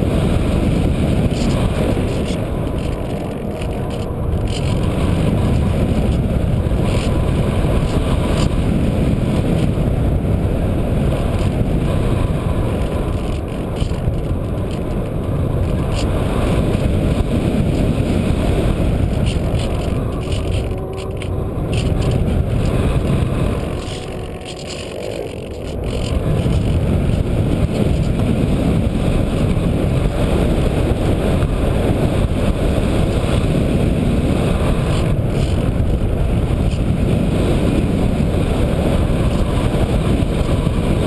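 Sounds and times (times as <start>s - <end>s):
faint steady whine: 0.0s - 41.0s
rush of airflow: 0.0s - 41.0s.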